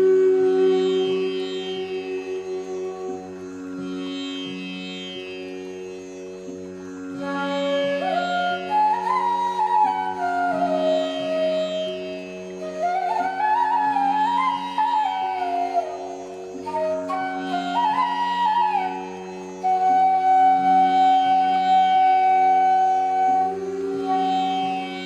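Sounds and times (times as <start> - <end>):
ornamented melody over a drone: 0.0 - 25.0.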